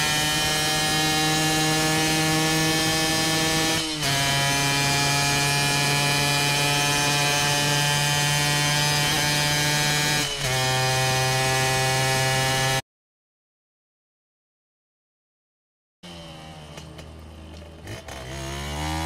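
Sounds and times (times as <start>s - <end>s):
motorcycle engine buzzing: 0.0s - 12.8s, 16.0s - 19.0s.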